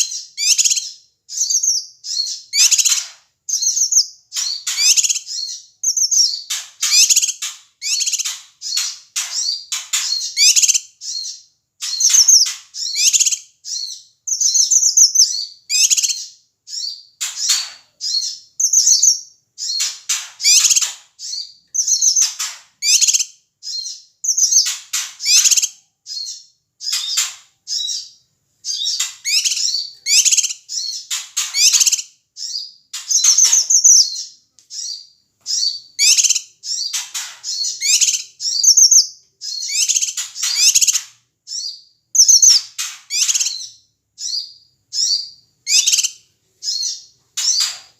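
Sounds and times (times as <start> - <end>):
bird chirping noisily: 0.0 - 47.9.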